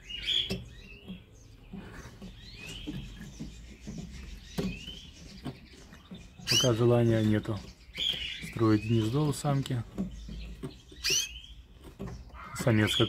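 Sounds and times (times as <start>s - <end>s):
birds rustling in cage: 0.0s - 13.0s
canaries chirping: 0.0s - 13.0s.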